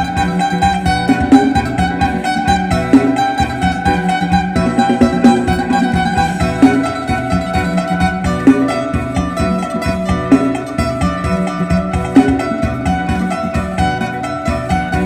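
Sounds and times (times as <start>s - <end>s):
plucked lute melody: 0.0s - 15.0s
steady beat: 0.0s - 15.0s.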